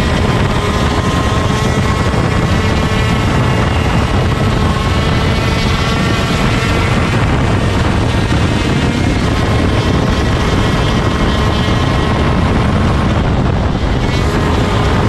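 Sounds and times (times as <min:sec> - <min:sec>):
kart engine revving high: 0:00.0 - 0:15.0.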